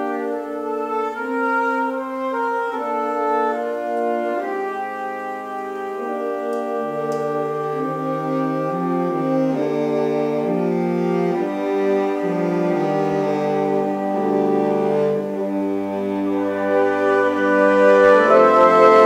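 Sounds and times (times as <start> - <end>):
saxophone ensemble playing chords: 0.0 - 19.0.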